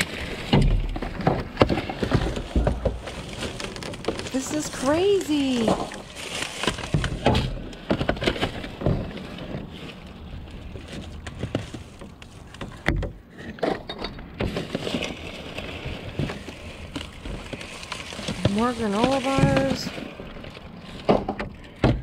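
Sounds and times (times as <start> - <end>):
plastic bags rustling: 0.0 - 12.9, 13.6 - 22.0
boxes knocking and clunking: 0.0 - 22.0.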